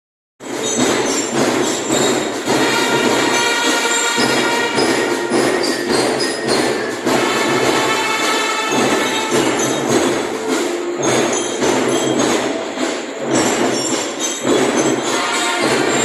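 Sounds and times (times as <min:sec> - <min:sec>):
dense noisy background: 0:00.4 - 0:16.0.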